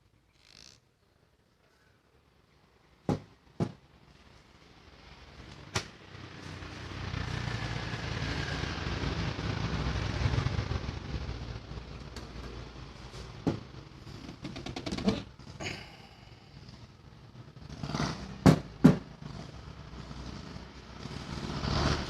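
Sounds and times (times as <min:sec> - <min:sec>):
vehicle engine rumble: 0:02.1 - 0:22.0.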